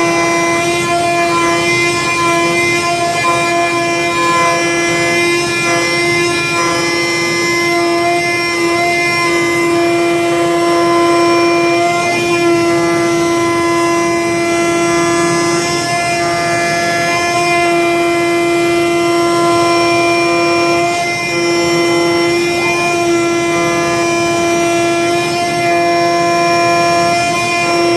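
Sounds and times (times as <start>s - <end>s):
cutting machine whine: 0.0s - 27.9s.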